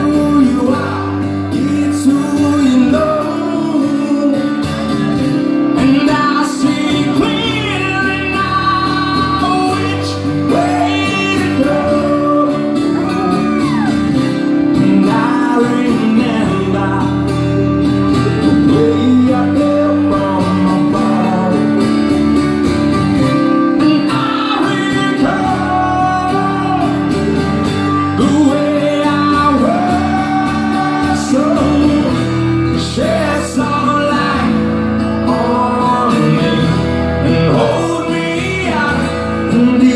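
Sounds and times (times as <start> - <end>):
person singing: 0.0 - 22.1, 23.4 - 39.9
guitar accompaniment: 0.0 - 39.9.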